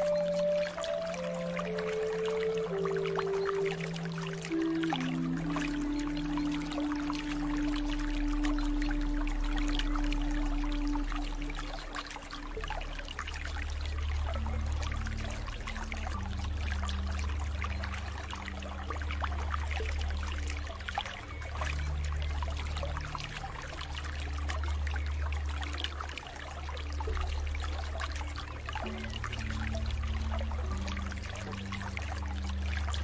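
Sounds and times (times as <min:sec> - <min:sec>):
ambient music drone: 0:00.0 - 0:33.0
water trickling and splashing: 0:00.0 - 0:33.0.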